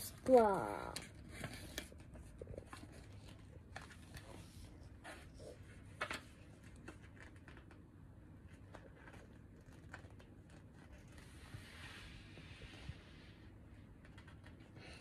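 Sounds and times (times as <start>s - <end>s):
book pages rustling: 1.0s - 7.8s, 8.4s - 14.7s.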